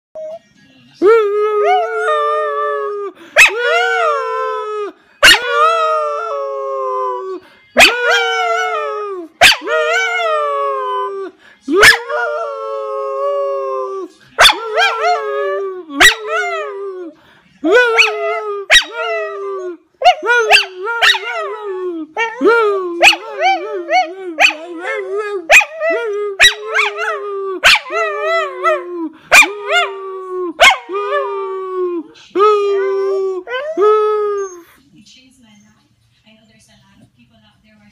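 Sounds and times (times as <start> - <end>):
man howling: 1.0 - 34.6
dog howling: 1.6 - 17.1, 17.7 - 34.7.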